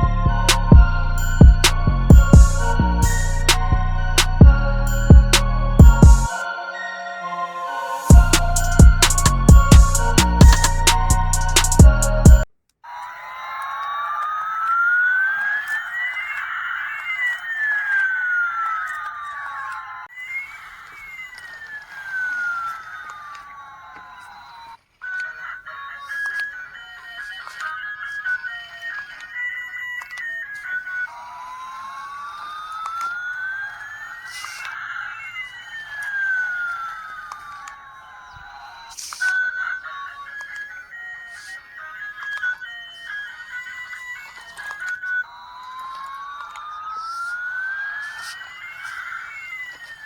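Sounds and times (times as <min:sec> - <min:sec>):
toy siren wail: 0:00.0 - 0:50.0.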